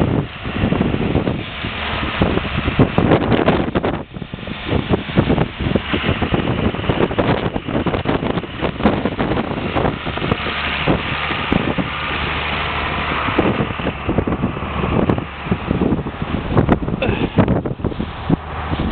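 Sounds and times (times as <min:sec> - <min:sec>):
tractor diesel engine running: 0:00.0 - 0:18.9
wind gusting over microphone: 0:00.0 - 0:18.9.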